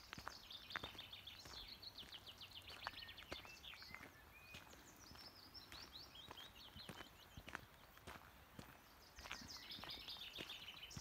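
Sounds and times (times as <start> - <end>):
songbird trills: 0.0 - 11.0.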